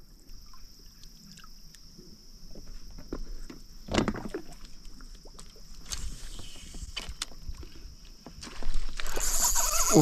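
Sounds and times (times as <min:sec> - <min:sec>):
crickets buzzing: 0:00.0 - 0:10.0.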